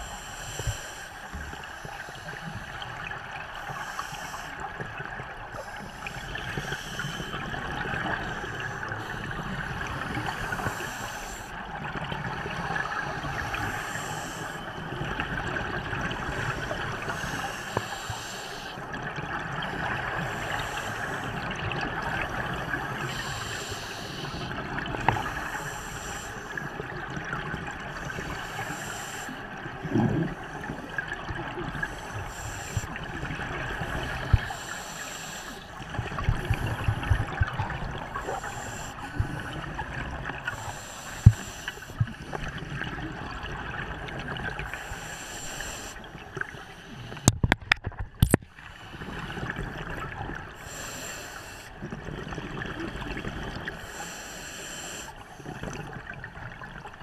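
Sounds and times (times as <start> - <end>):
exhaled bubbles hissing underwater: 0.0 - 47.4, 48.7 - 57.0
muffled water hiss: 0.0 - 57.0.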